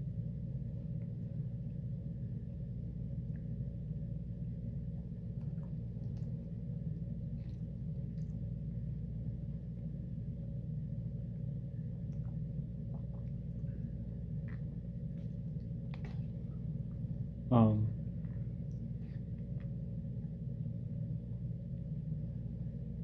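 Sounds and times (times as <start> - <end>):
steady low hum: 0.0 - 23.0
soft chewing: 0.5 - 23.0.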